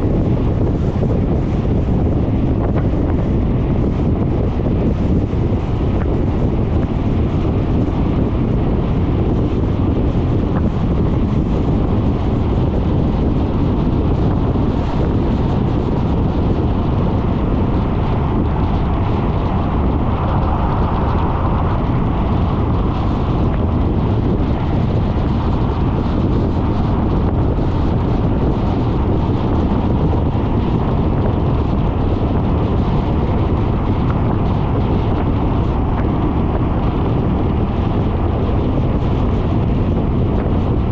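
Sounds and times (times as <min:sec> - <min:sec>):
road noise: 0:00.0 - 0:40.9
wind buffeting microphone: 0:00.0 - 0:40.9.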